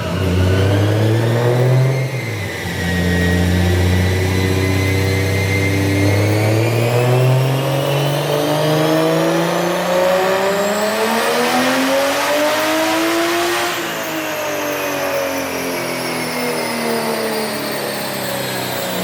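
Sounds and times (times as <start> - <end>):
car engine revving at full throttle: 0.0 - 19.0.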